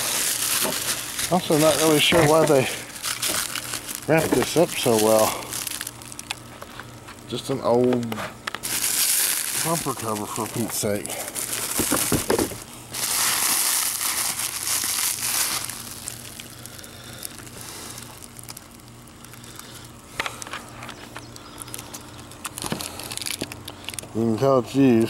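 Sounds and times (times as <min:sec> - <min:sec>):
plastic film crinkling: 0:00.0 - 0:25.0.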